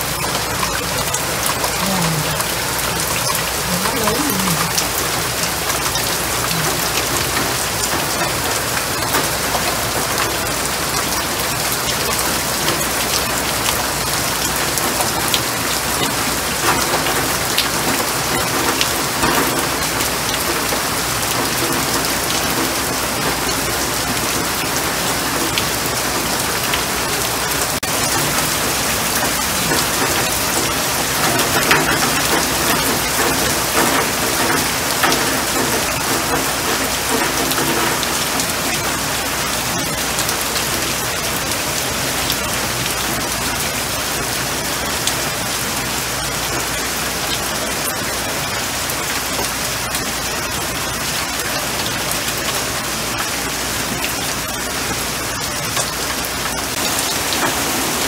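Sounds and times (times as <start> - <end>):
heavy rain on standing water: 0.0 - 58.0.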